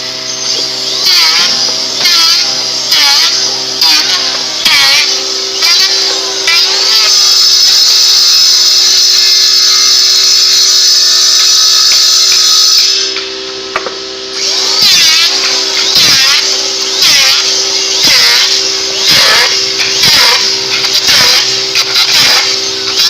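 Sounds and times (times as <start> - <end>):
power tool motor whining: 0.0 - 23.0.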